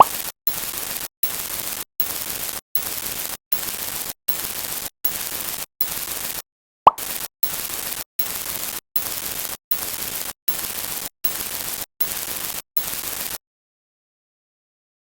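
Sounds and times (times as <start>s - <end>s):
static hiss bursts: 0.0s - 6.4s, 7.0s - 13.4s.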